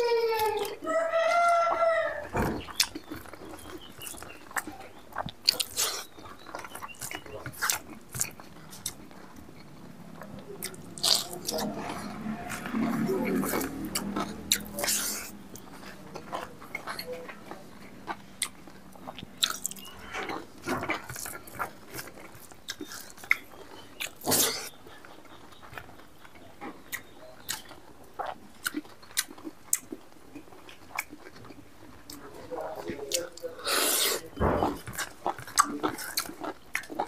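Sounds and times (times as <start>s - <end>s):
man chewing food: 0.0s - 37.0s.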